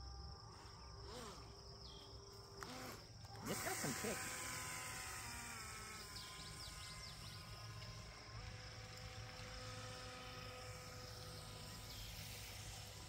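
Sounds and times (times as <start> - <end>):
electric motor and jet-pump whine: 0.0 - 13.0.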